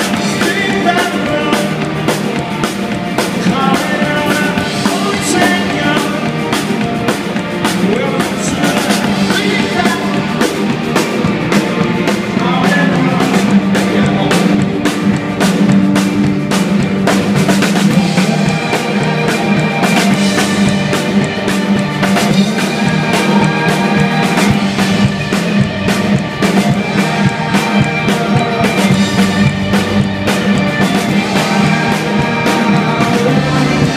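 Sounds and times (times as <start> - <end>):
rock band playing live: 0.0 - 33.9.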